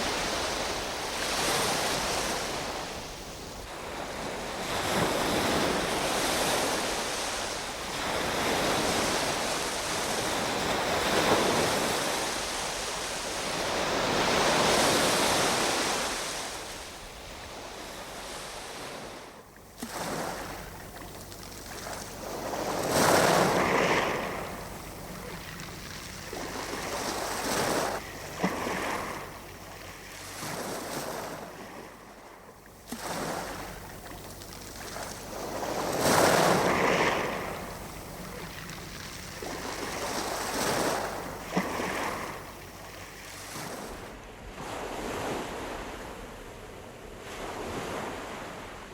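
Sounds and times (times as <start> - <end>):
sea waves breaking: 0.0 - 46.2.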